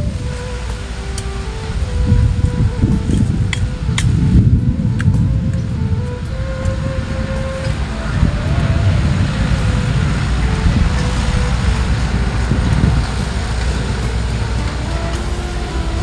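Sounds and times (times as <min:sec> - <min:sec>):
faint background music: 0:00.0 - 0:16.0
steady low rumble: 0:00.0 - 0:16.0
wind buffeting microphone: 0:00.0 - 0:16.0.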